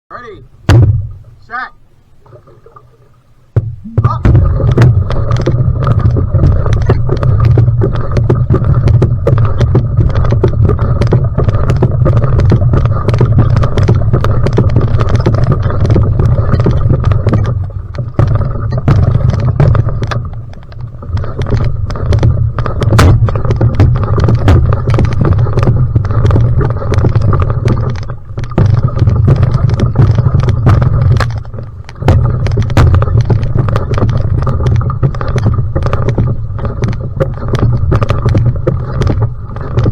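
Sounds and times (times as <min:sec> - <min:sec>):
paddle strokes splashing: 0:01.0 - 0:39.9
water rushing past canoe: 0:02.1 - 0:39.9.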